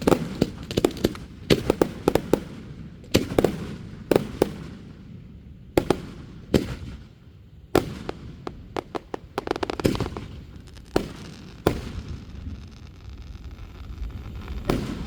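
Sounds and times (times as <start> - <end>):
crackling fireworks pops: 0.0 - 4.9, 5.8 - 7.2, 7.8 - 15.0
fireworks bangs: 0.0 - 5.0, 5.8 - 15.0.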